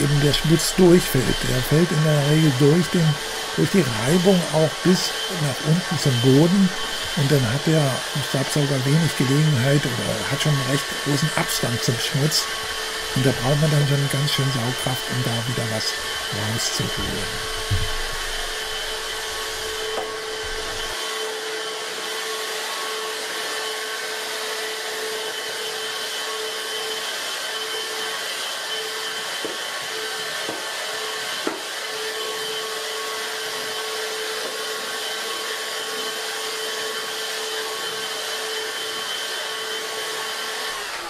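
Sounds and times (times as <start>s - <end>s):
vacuum cleaner whine on carpet: 0.0s - 41.0s.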